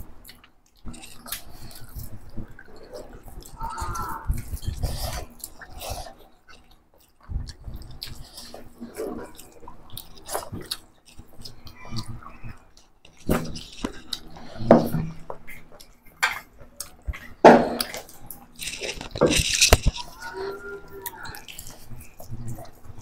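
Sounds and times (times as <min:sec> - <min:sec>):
chewing and wet smacks: 0:00.2 - 0:23.0.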